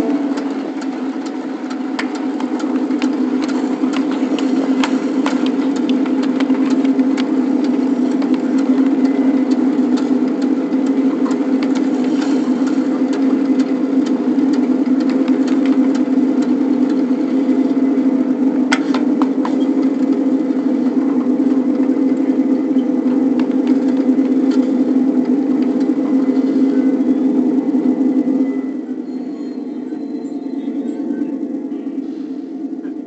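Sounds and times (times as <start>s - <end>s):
train track clicks: 0.0s - 28.6s
small train running on track: 0.0s - 33.0s.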